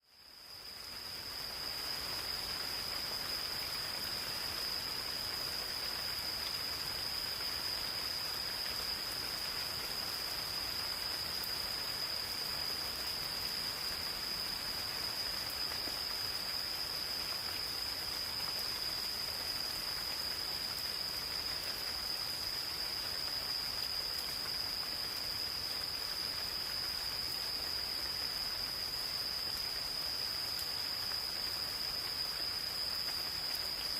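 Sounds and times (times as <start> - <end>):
light rain pattering on leaves: 0.0 - 33.9.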